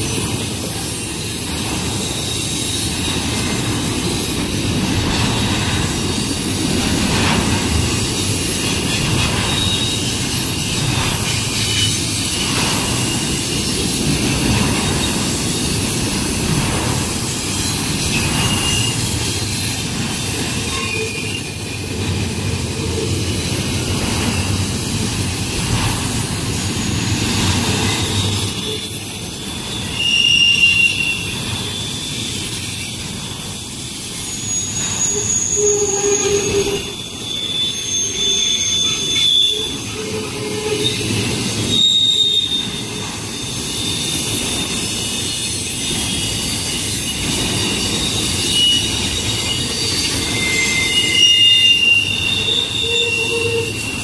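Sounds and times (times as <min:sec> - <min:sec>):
high wheel squeals: 0:00.0 - 0:54.0
train wheels rumbling on rail: 0:00.0 - 0:54.0.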